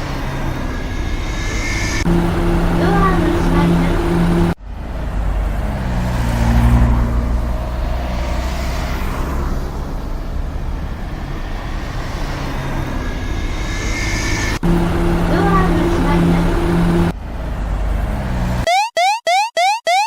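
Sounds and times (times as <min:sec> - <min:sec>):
bus engine rumbling: 0:00.0 - 0:18.7.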